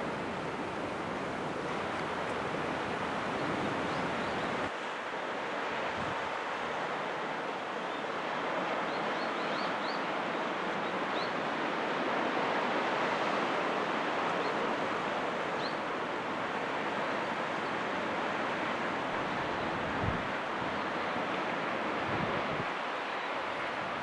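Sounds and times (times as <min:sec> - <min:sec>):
ocean surf on rocks: 0:00.0 - 0:24.0.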